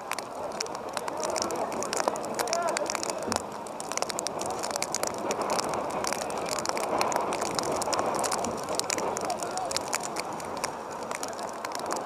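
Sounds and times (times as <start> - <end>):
sharp clicks and crackles: 0.0 - 12.0.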